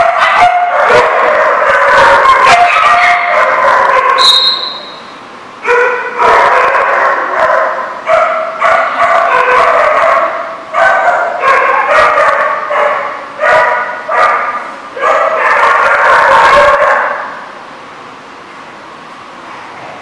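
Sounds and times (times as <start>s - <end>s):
dogs play-barking: 0.0s - 4.9s, 5.6s - 17.4s.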